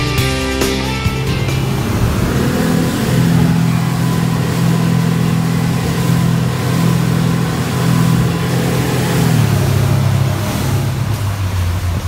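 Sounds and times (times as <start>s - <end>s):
outboard motors droning: 0.0s - 12.0s.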